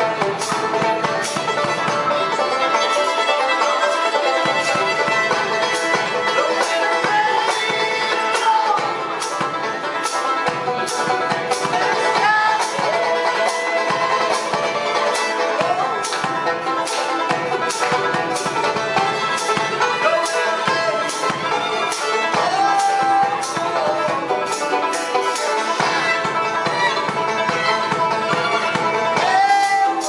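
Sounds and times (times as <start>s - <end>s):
fiddle banjo and mandolin tune: 0.0s - 30.0s.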